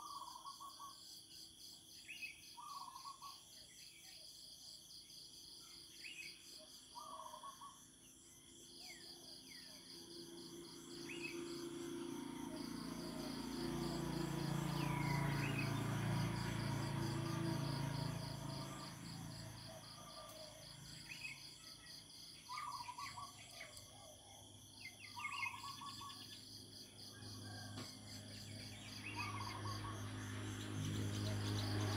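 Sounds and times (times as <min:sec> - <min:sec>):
insects chirping: 0:00.0 - 0:31.9.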